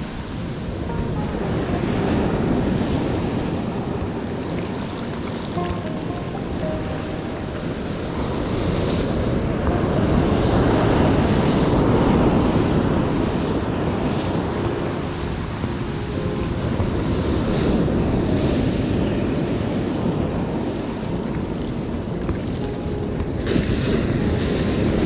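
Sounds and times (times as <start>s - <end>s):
sea surf washing in: 0.0s - 25.0s
wind buffeting microphone: 0.0s - 25.0s.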